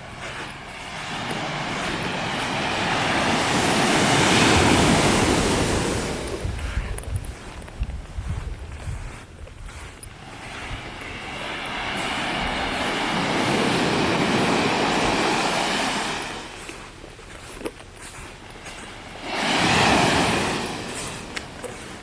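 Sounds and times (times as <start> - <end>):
waves breaking on beach: 0.0 - 22.0.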